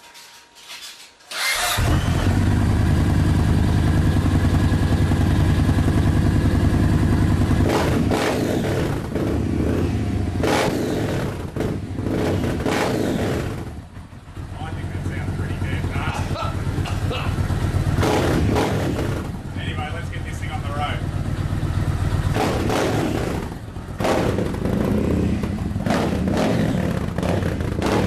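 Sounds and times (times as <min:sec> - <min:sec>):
motorcycle engine idling loudly: 0:01.8 - 0:28.0.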